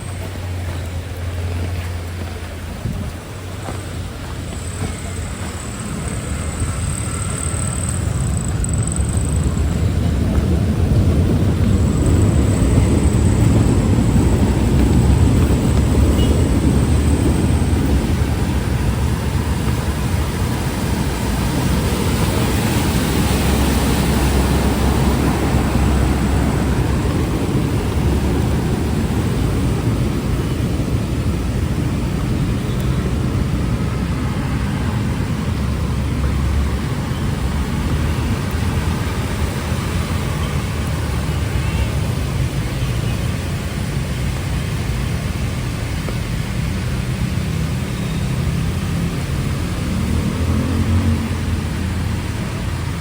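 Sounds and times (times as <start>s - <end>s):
heavy rain: 0.0s - 53.0s
street traffic rumble: 0.0s - 53.0s.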